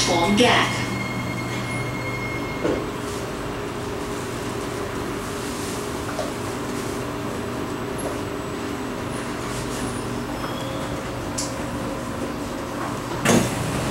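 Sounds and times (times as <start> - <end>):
electric train humming tones: 0.0 - 13.9
train cabin rumble: 0.0 - 13.9.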